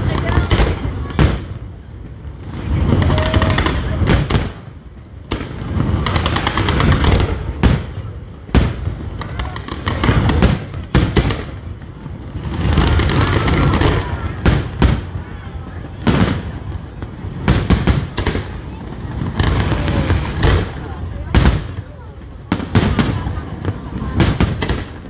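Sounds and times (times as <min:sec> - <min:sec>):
firework crackling: 0:00.0 - 0:25.0
loud firework bangs: 0:00.0 - 0:25.0.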